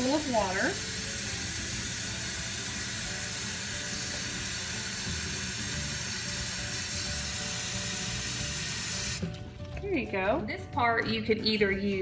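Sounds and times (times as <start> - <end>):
faucet filling plastic bag: 0.0 - 9.9.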